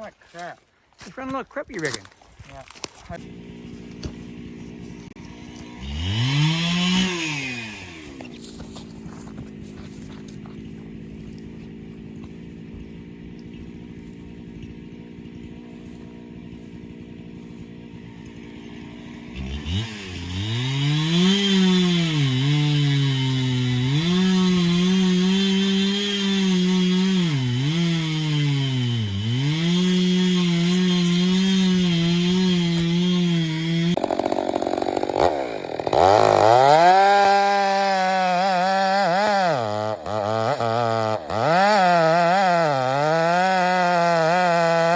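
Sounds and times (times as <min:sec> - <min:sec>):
chainsaw engine idling and revving: 0:02.6 - 0:44.9
chainsaw cutting wood: 0:02.7 - 0:44.9.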